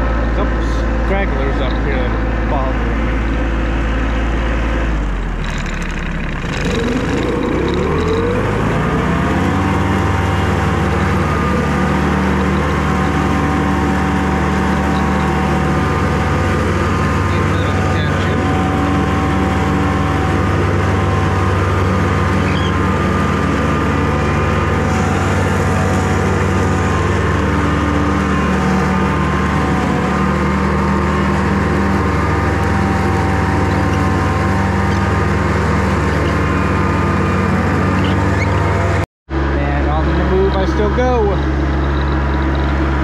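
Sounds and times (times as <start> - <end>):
riding lawn mower engine drone: 0.0 - 43.0.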